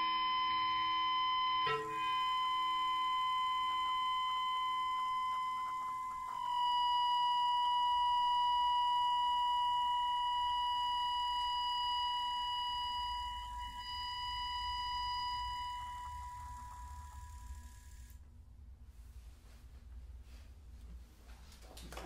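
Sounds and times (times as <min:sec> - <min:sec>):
guitar high ringing tone: 0:00.0 - 0:18.1.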